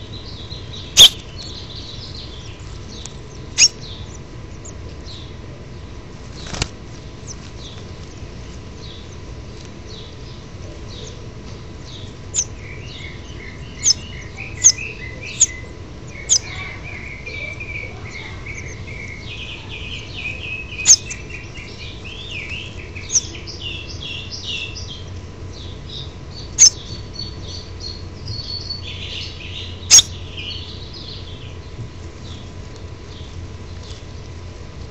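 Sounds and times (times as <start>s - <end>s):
nestlings chirping: 0.0s - 34.8s.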